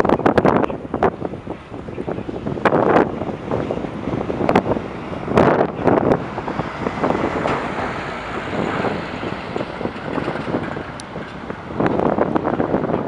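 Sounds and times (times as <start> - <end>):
jet engines rumbling at takeoff: 0.0 - 13.0
wind gusts on microphone: 0.0 - 13.0.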